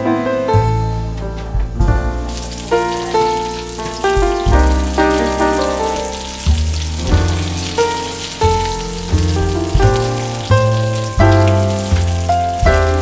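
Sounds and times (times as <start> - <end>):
background music with strong bass: 1.4 - 13.0
faint hiss: 2.3 - 13.0.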